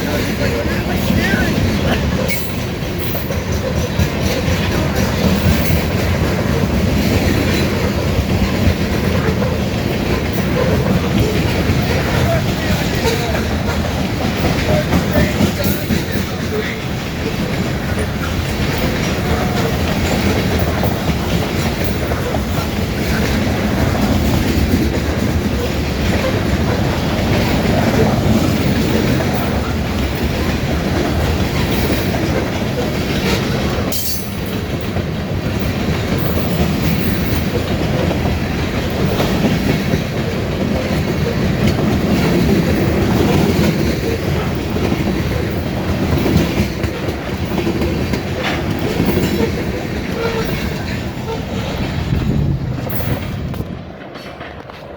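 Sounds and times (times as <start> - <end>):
train wheels rattling over rails: 0.0 - 54.9.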